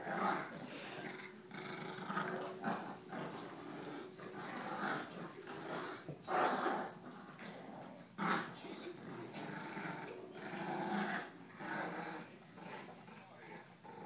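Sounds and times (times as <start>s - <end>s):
dogs growling in play: 0.0s - 14.0s.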